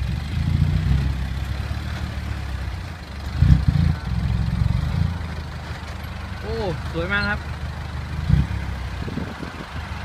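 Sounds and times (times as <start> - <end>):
dump truck diesel engine rumbling: 0.0 - 10.0.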